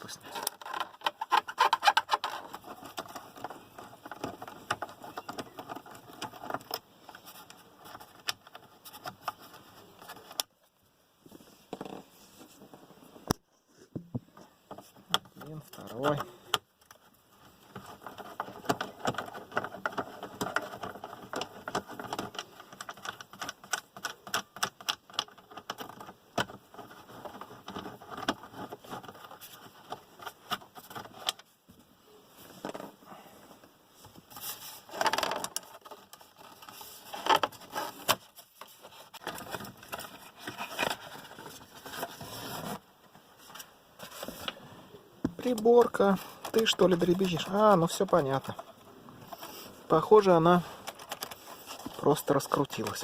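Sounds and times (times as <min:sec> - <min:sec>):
plastic trim scraping and clicking: 0:00.2 - 0:10.5, 0:14.7 - 0:31.5, 0:34.4 - 0:42.8, 0:45.3 - 0:53.0.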